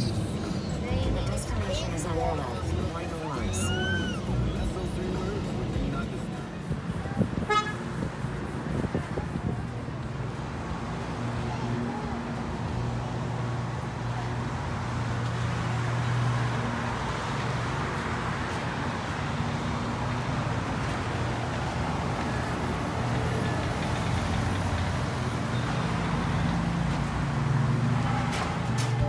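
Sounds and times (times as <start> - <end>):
low engine hum: 0.0 - 29.0
traffic noise: 0.0 - 29.0.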